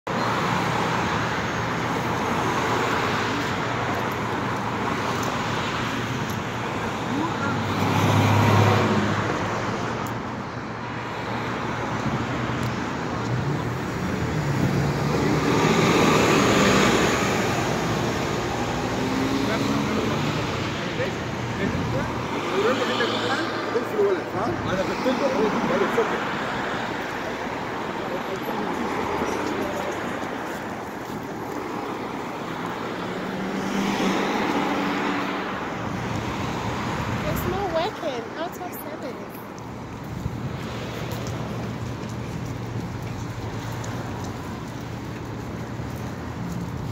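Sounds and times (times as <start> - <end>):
road traffic: 0.0 - 46.9.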